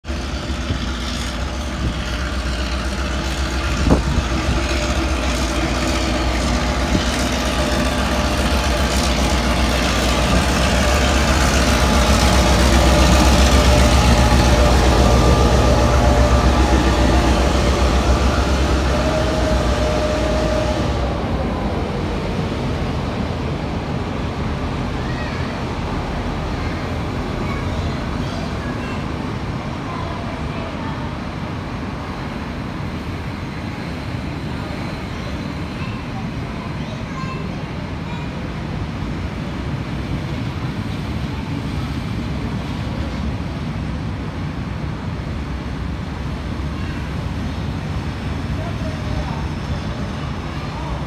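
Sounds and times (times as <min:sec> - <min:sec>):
diesel locomotive engine drone: 0:00.0 - 0:51.0
train carriages rolling: 0:00.0 - 0:51.0.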